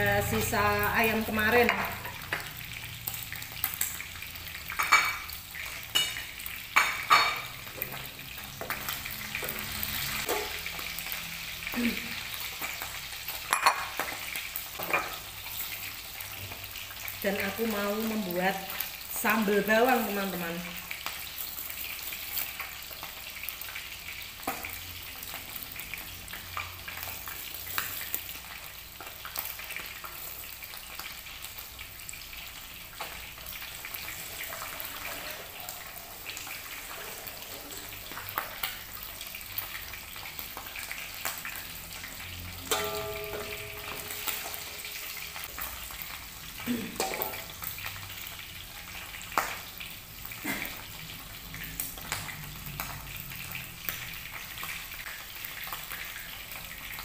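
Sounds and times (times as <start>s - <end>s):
oil sizzling with spits: 0.0s - 57.0s.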